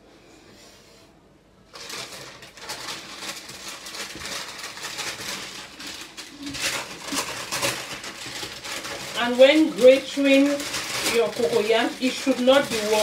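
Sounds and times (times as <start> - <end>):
baking paper rustling: 1.6 - 13.0.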